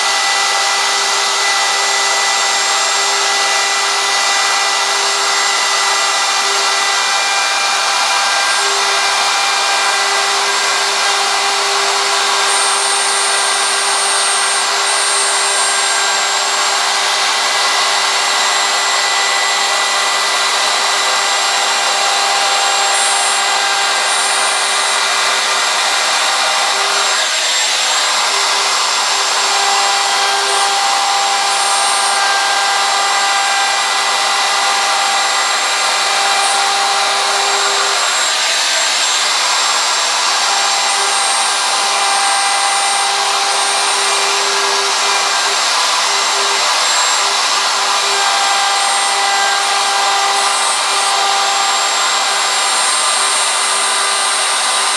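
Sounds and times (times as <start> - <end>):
hiss of router cutting wood: 0.0 - 54.9
router motor whine: 0.0 - 54.9.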